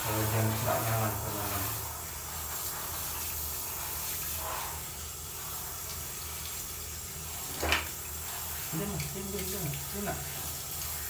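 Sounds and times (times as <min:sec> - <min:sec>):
shower water spraying on fur: 0:00.0 - 0:11.0.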